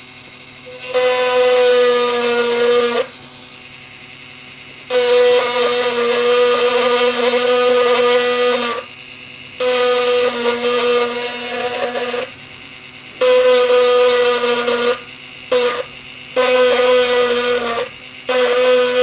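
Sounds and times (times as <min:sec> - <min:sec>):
rotary tool whining: 0:00.0 - 0:19.0.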